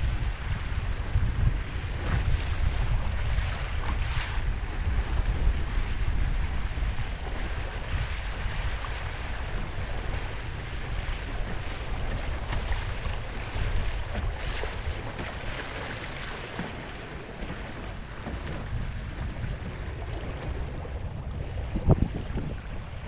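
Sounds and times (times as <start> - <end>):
water splashing along a hull: 0.0 - 23.0
wind buffeting microphone: 0.0 - 23.0.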